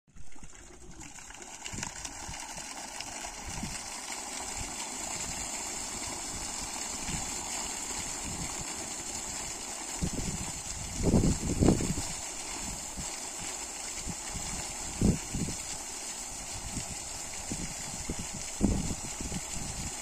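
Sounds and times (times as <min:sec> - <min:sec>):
water gushing from a pipe: 0:00.1 - 0:20.0.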